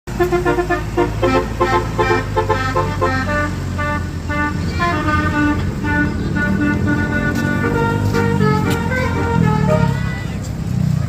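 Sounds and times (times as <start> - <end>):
multi-tone horn playing a tune: 0.1 - 10.4
engine humming: 0.1 - 11.0.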